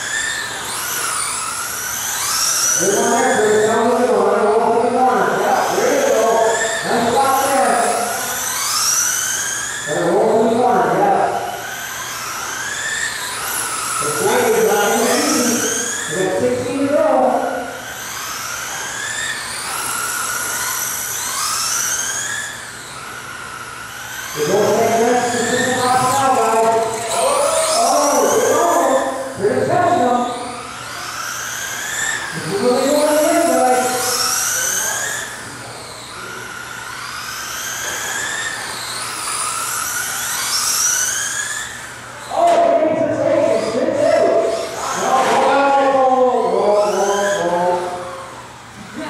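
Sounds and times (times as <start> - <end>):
electric motors whining: 0.0 - 49.0.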